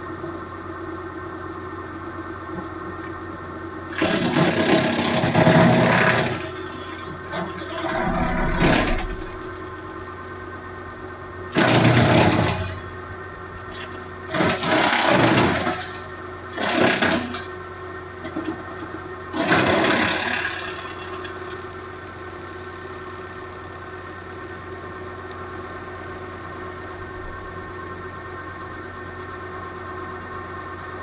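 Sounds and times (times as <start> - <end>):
wood chipper running: 3.8 - 10.1, 11.1 - 30.7.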